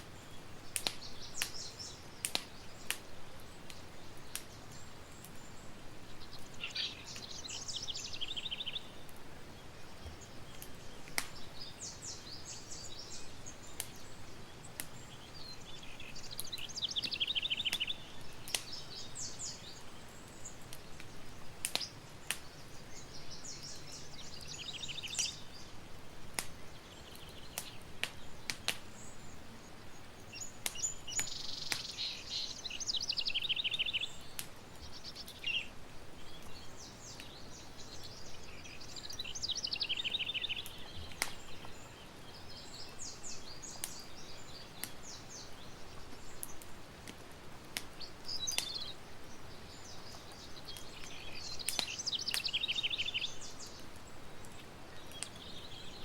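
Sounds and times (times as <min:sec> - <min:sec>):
songbird trilling song: 0:00.0 - 0:46.6, 0:47.8 - 0:56.0
campfire crackling: 0:00.0 - 0:56.0.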